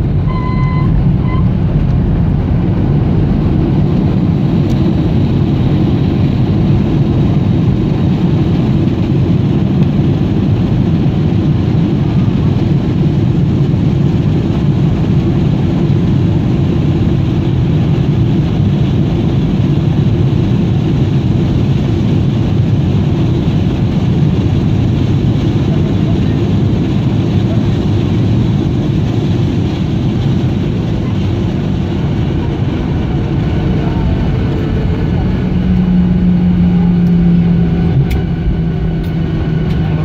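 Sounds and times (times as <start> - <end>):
airliner cabin engine and airflow noise: 0.0 - 40.0.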